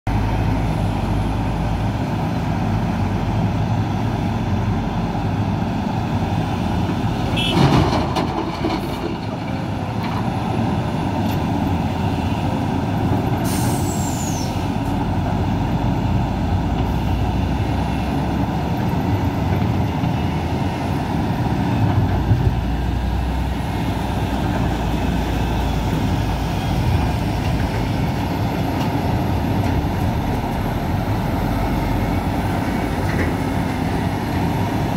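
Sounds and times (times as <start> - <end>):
diesel machinery engines running: 0.1 - 34.9.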